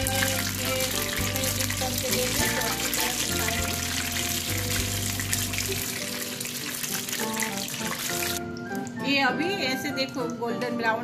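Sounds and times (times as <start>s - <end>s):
food deep-frying in hot oil: 0.0s - 9.1s
background music: 0.0s - 11.0s.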